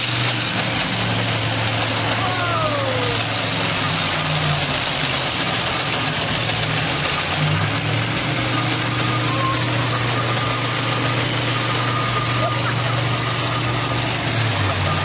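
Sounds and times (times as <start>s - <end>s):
constant rushing noise: 0.0s - 15.0s
diesel tractor engine droning: 0.0s - 15.0s.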